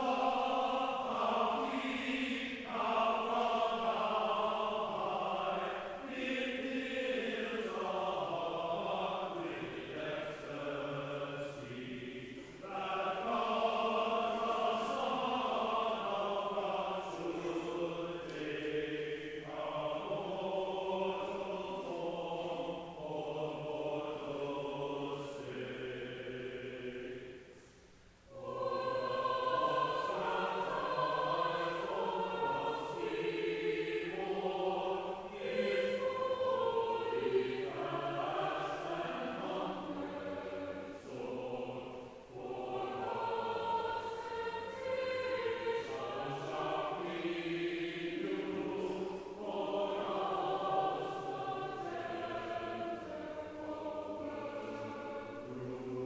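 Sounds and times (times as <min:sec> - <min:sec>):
church choir singing: 0:00.0 - 0:56.0.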